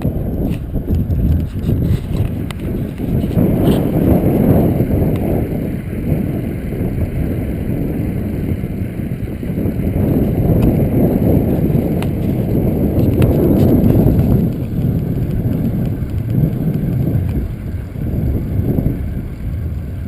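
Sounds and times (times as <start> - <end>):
bicycle tyre road noise: 0.0 - 20.0
wind buffeting microphone: 0.0 - 20.0.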